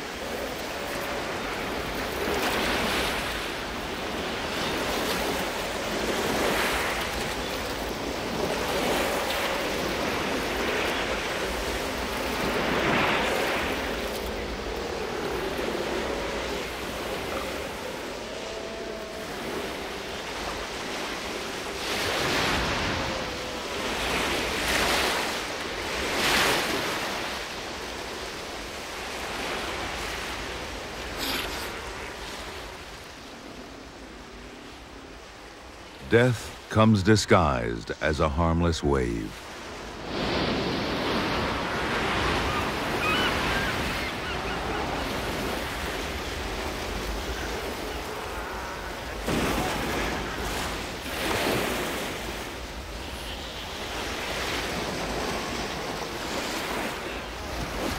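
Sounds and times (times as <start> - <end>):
waves crashing on beach: 0.0 - 57.9.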